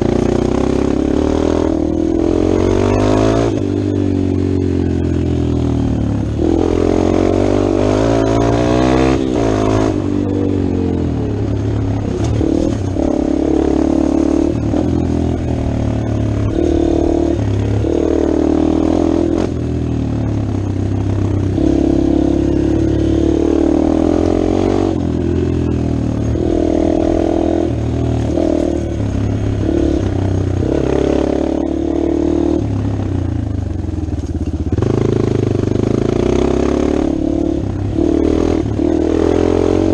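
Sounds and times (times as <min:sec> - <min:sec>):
dirt bike engine revving: 0:00.0 - 0:33.1, 0:34.7 - 0:39.9.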